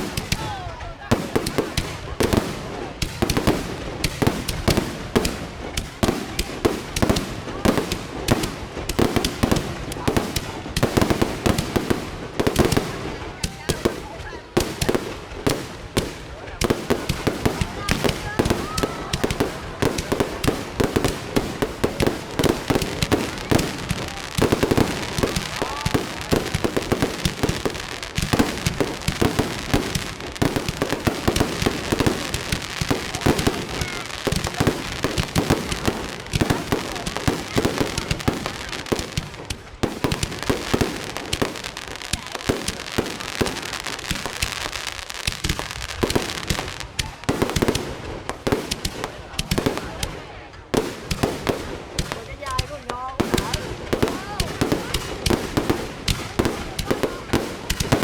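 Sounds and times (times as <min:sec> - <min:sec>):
fireworks bangs and cracks: 0:00.0 - 0:58.0.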